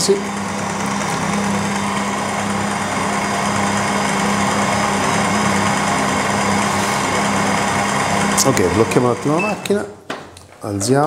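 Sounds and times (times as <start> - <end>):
stand mixer motor hum: 0.0 - 9.7.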